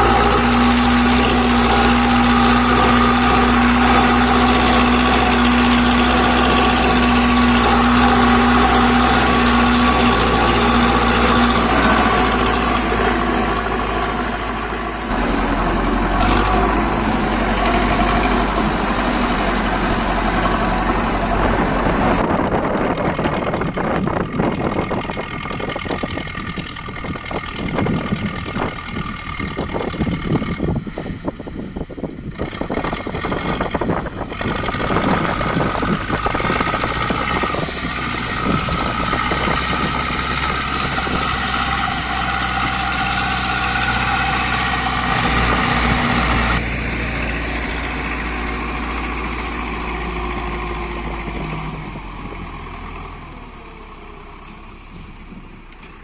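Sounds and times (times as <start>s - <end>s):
engine knocks and rattles: 0.0s - 56.0s
tractor diesel engine running: 0.0s - 56.0s.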